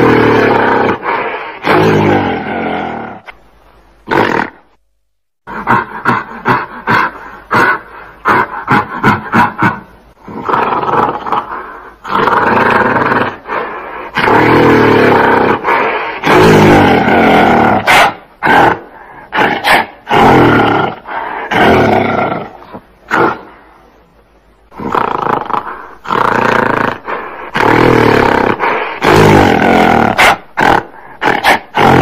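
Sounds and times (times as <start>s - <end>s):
gorilla grunts: 0.0s - 3.3s, 5.5s - 23.6s, 24.7s - 32.0s.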